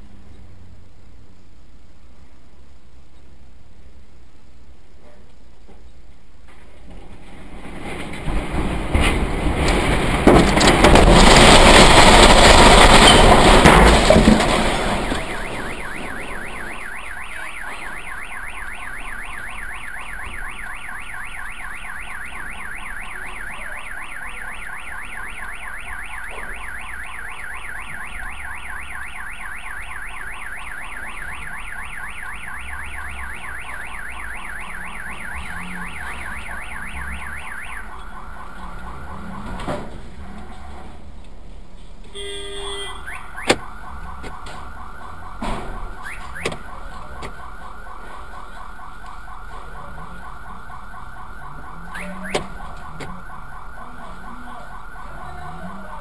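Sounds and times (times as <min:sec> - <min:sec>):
car alarm warbling: 0:09.7 - 0:40.7, 0:42.1 - 0:56.0.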